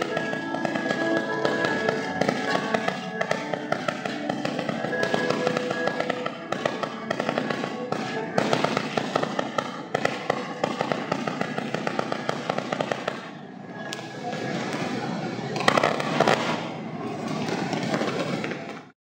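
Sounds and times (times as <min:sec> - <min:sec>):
fireworks crackling: 0:00.0 - 0:18.9.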